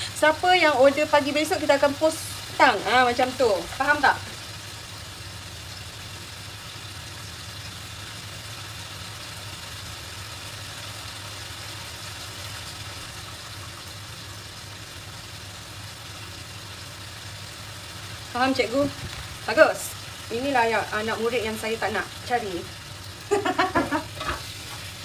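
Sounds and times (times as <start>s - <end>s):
chicken sizzling in a pan: 0.0s - 25.0s
extractor fan humming: 0.0s - 25.0s.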